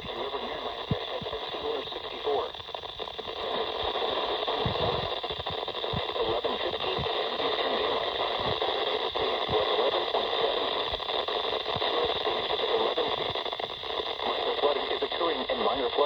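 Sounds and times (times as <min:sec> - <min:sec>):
low crackles: 0:00.0 - 0:16.0
radio static hiss: 0:00.0 - 0:16.0.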